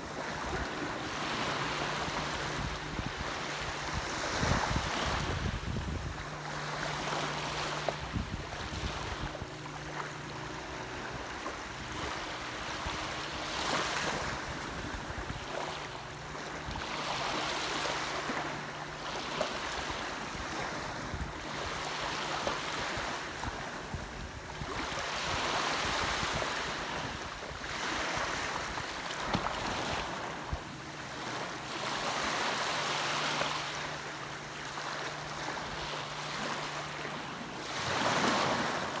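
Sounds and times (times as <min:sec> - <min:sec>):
small waves breaking on beach: 0:00.0 - 0:39.0.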